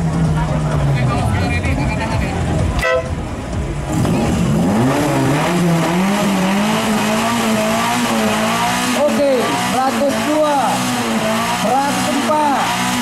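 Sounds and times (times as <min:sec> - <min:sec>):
car engine revving loudly: 0:00.0 - 0:13.0.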